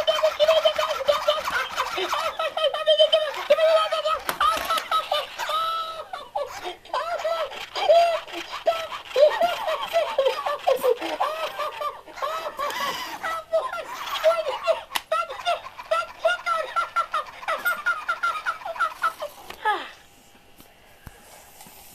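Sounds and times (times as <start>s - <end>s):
toy voice laughing: 0.0s - 19.9s.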